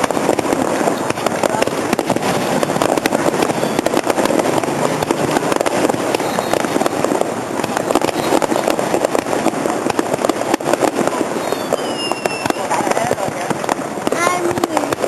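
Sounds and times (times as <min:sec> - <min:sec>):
fireworks crackling: 0:00.0 - 0:15.0
steady rumble: 0:00.0 - 0:15.0.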